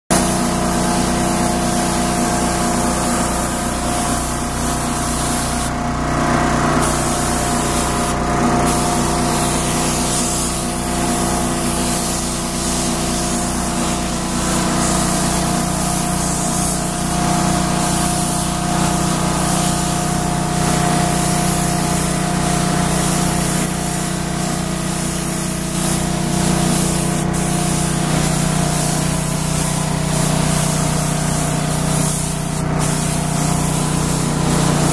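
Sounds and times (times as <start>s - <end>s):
spray gun air hiss: 0.1s - 34.9s.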